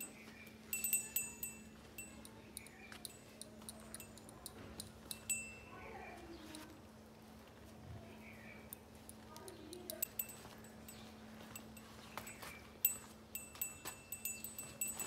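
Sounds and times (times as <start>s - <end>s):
small metal bells jingling: 0.0s - 6.7s, 9.4s - 15.0s.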